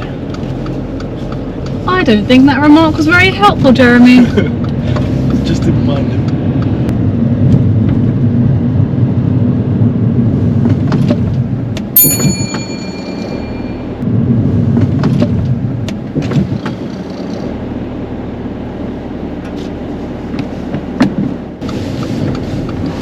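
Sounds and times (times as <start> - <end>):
engine and road rumble: 0.0 - 23.0.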